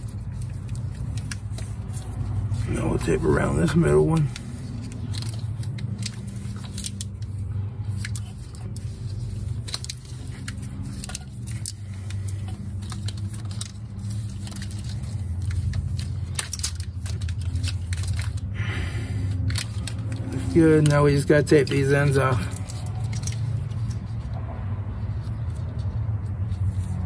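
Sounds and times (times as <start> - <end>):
tape tearing and rustling: 0.0 - 27.0.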